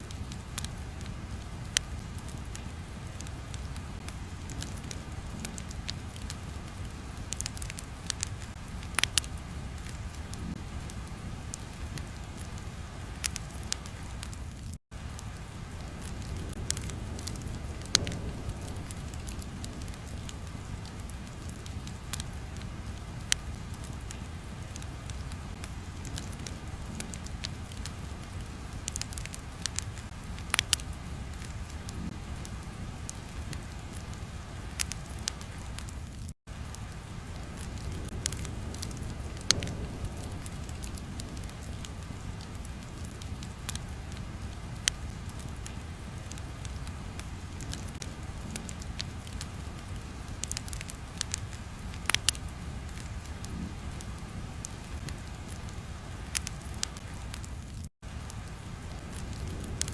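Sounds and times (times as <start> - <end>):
fire popping and snapping: 0.0 - 59.9
low fire rumble: 0.0 - 59.9.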